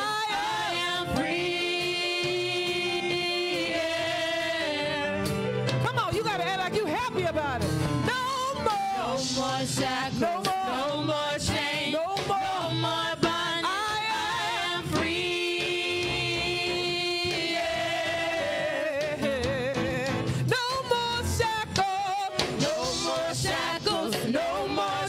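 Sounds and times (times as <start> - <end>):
women singing gospel in harmony: 0.0 - 5.6, 8.1 - 25.0.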